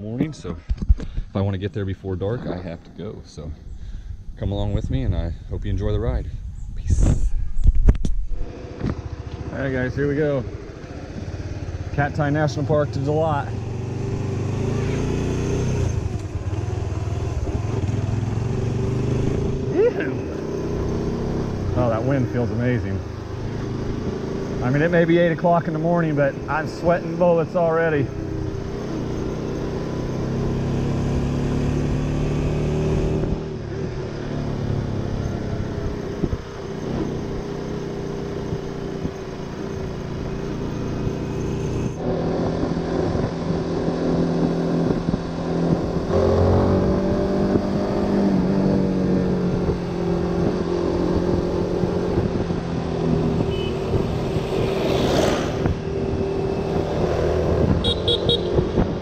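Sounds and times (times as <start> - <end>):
motorcycle engine running: 7.5 - 59.0.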